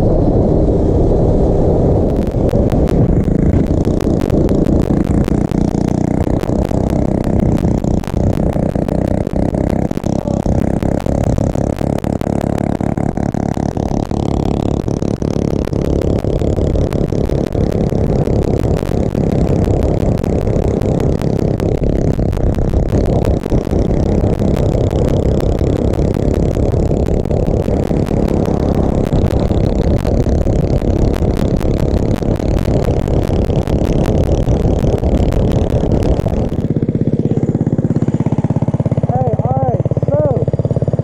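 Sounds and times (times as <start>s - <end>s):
wind buffeting microphone: 0.0s - 36.8s
small motorbike engine running: 1.2s - 41.0s.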